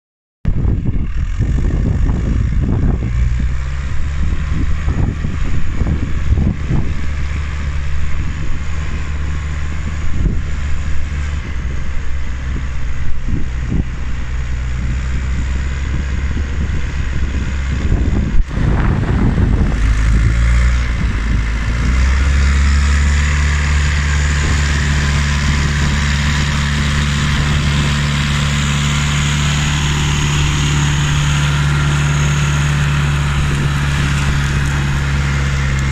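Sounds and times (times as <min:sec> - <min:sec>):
diesel engine running: 0:00.5 - 0:35.9.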